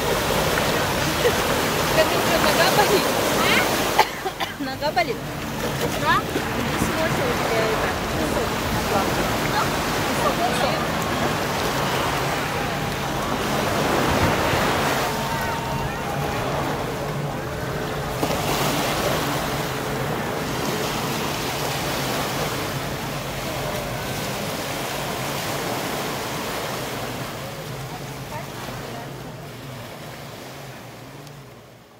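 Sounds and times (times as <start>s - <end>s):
sea surf washing onto beach: 0.0s - 31.9s.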